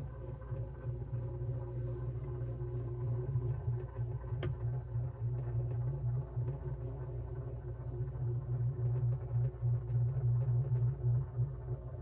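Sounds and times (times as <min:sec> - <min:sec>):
turntable motor humming: 0:00.0 - 0:12.0.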